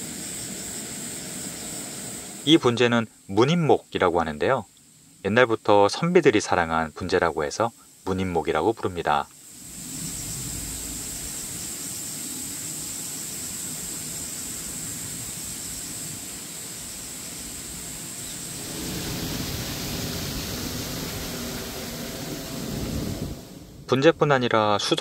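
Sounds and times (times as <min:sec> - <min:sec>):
even outdoor hiss: 0:00.0 - 0:25.0.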